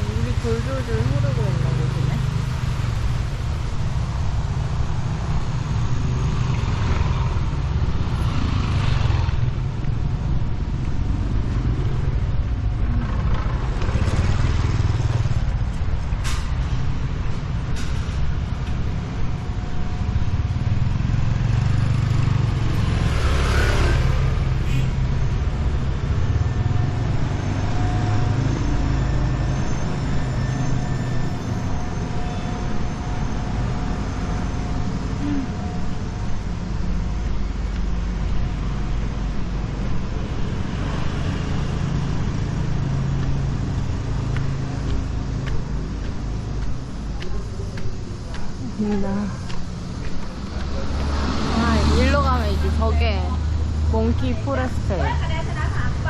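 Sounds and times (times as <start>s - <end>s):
low traffic rumble: 0.0s - 56.0s
vehicles passing close: 0.0s - 56.0s.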